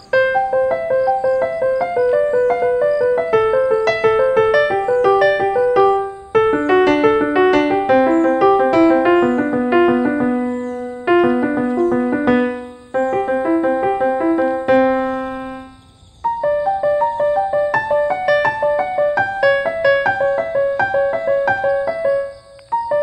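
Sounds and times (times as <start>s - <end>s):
gentle piano melody: 0.0s - 23.0s.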